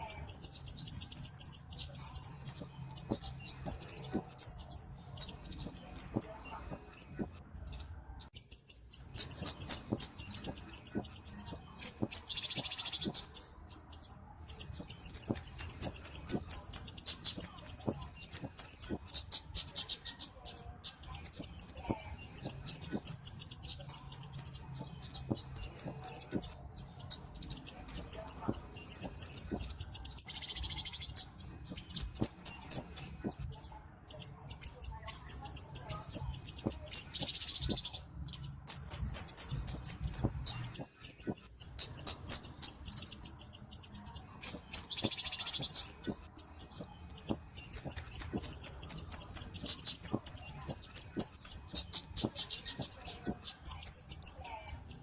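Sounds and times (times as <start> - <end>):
bird high-pitched ticking twitter: 0.0 - 55.0.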